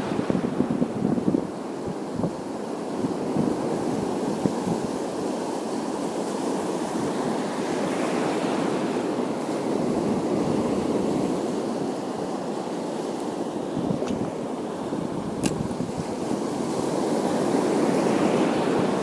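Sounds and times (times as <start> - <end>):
surf washing over rocky shore: 2.1 - 19.0.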